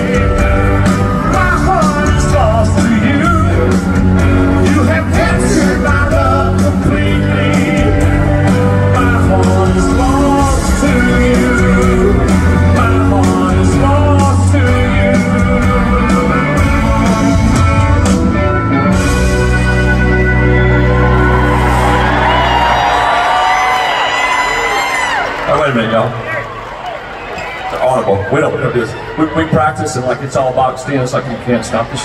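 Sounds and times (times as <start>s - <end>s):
live country rock band: 0.0s - 32.0s.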